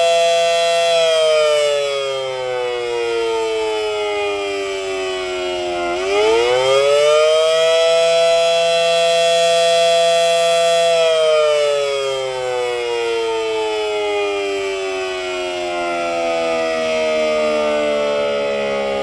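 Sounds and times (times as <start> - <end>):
warning siren winding: 0.0 - 19.0.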